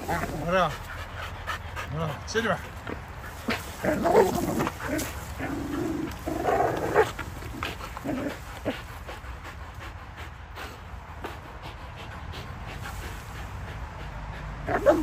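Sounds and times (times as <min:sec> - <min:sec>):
dogs growling: 0:00.0 - 0:15.0.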